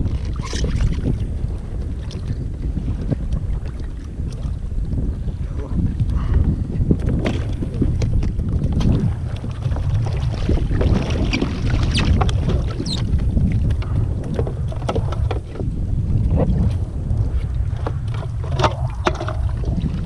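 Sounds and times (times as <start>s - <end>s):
water against a kayak hull: 0.0s - 20.0s
wind rumble on microphone: 0.0s - 20.0s.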